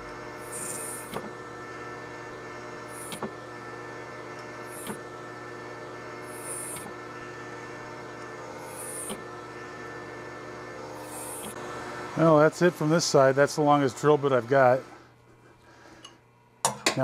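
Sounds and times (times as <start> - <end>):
drill bit cutting hiss: 0.0 - 15.0
metal lathe running: 0.0 - 15.2.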